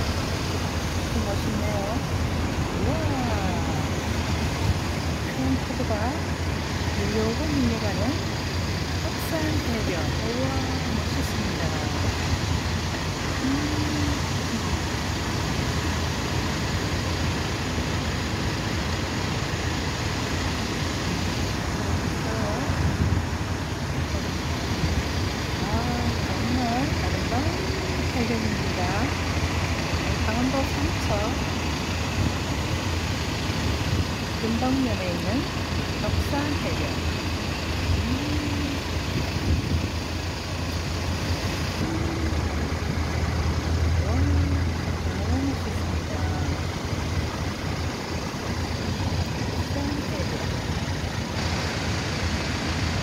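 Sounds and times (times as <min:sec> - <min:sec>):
waves breaking on a beach: 0:00.0 - 0:53.0.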